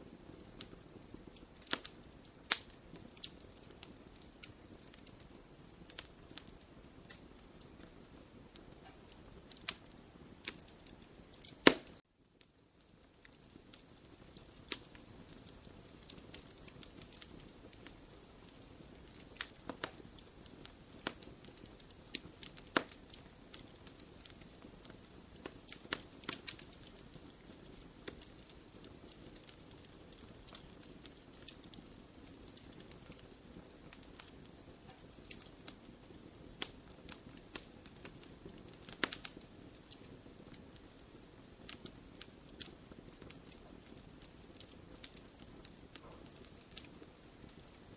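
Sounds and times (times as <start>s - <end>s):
fire crackling in fireplace: 0.0s - 47.9s.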